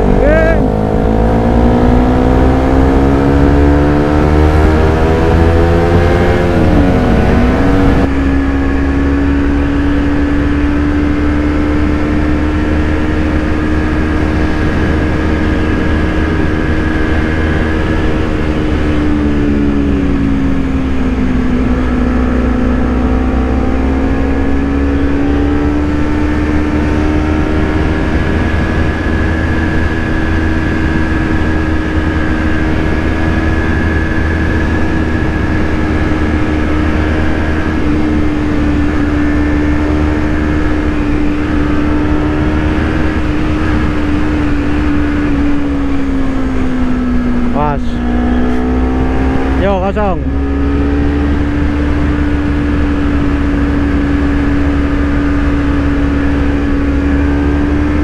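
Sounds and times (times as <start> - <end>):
motorcycle engine at speed: 0.0 - 58.0
wind rumbling on microphone: 0.0 - 58.0.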